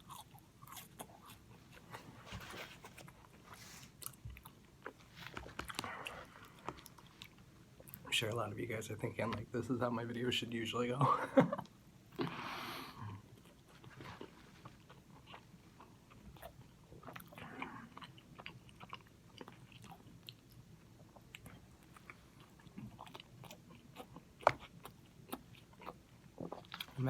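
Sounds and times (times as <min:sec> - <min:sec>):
chewing crispy sandwich: 0:00.0 - 0:08.1, 0:13.2 - 0:27.0.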